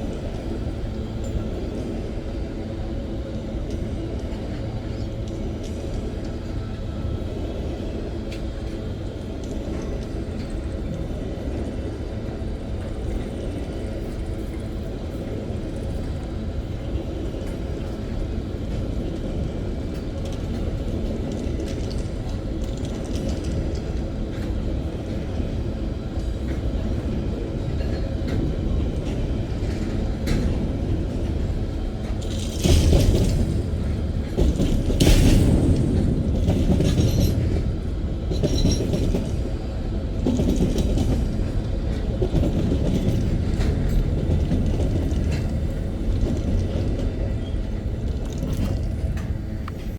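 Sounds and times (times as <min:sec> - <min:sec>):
freight train rumbling: 0:00.0 - 0:49.9
train clicks and clanks: 0:00.0 - 0:49.9.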